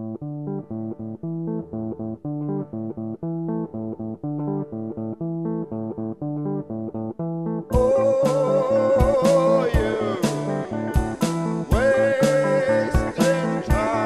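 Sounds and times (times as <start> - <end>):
plucked guitar riff over bass: 0.0 - 14.0.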